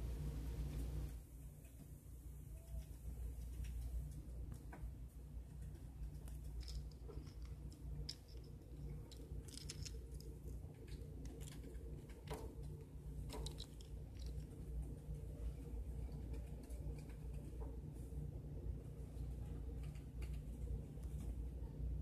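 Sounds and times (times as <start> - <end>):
steady low hum: 0.0 - 22.0
rats gnawing dry pasta: 0.3 - 22.0.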